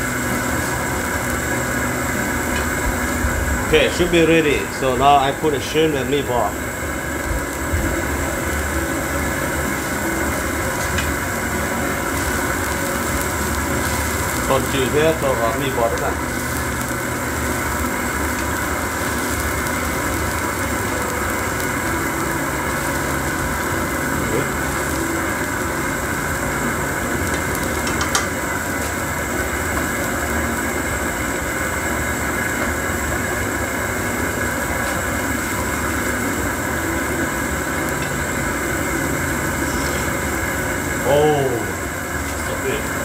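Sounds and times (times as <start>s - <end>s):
propane burner roaring: 0.0s - 43.0s.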